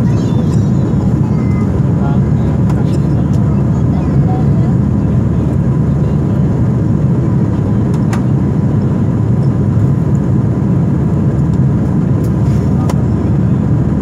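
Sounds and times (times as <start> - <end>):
jet engine and airflow rush: 0.0 - 14.0.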